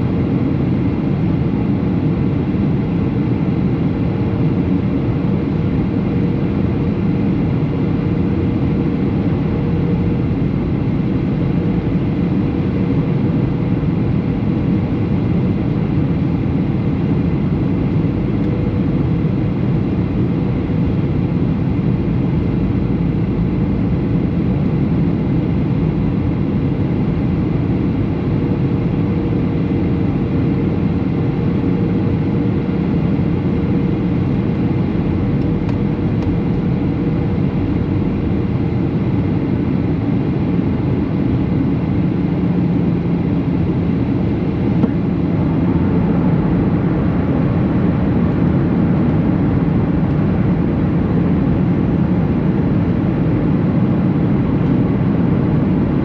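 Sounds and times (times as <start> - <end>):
aircraft engine drone: 0.0 - 56.0
airflow rushing in aircraft cabin: 0.0 - 56.0.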